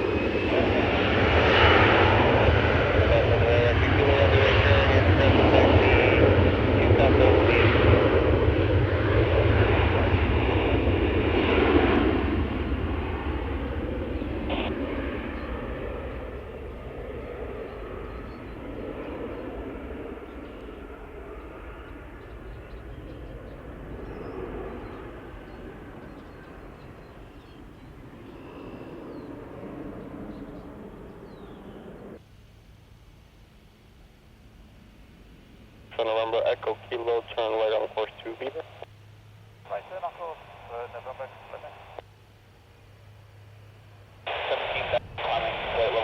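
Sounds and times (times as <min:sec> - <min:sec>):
airplane engine: 0:00.0 - 0:46.0.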